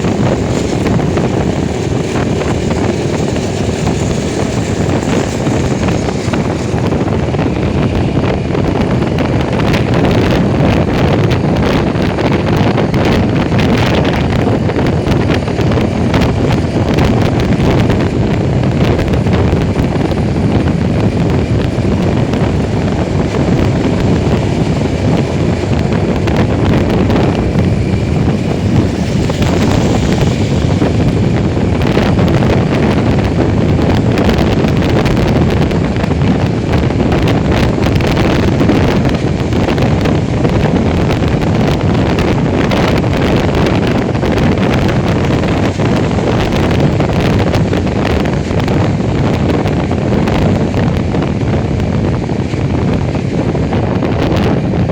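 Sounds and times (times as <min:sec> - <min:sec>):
motorcycle and road noise: 0:00.0 - 0:54.9
wind rushing over microphone: 0:00.0 - 0:54.9.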